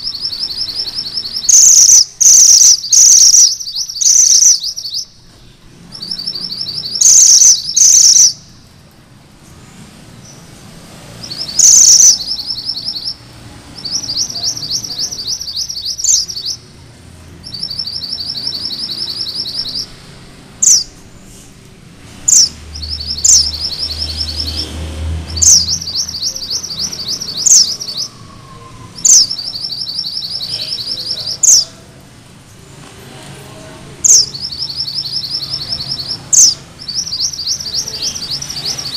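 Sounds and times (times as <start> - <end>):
bird singing rapid high trills: 0.0 - 8.7, 11.2 - 21.0, 22.2 - 31.8, 34.0 - 38.9.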